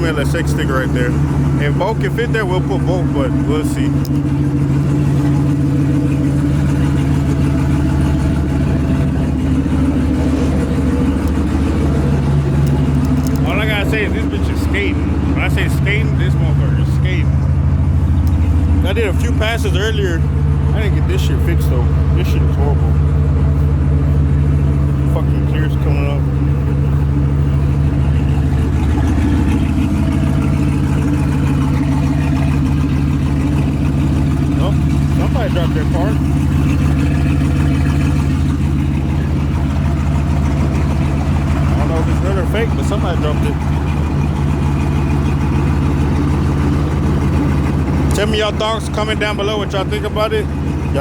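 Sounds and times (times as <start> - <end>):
truck engine idling: 0.0 - 51.0.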